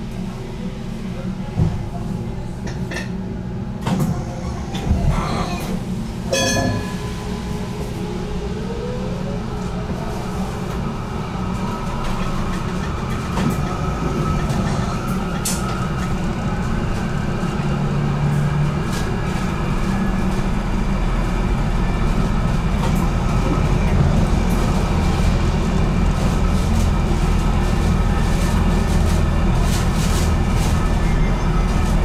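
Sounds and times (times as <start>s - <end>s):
tram wheels and motors rumbling: 0.0s - 32.0s.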